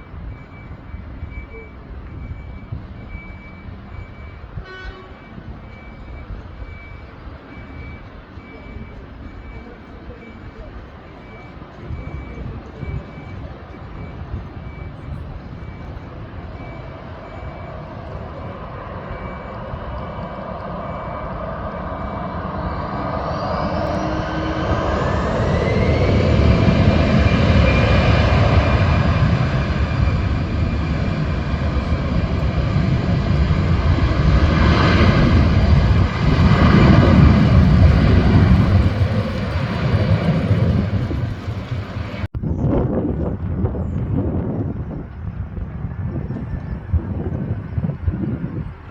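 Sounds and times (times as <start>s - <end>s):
airliner engines whining: 0.0s - 48.9s
deep rumble: 5.4s - 48.8s.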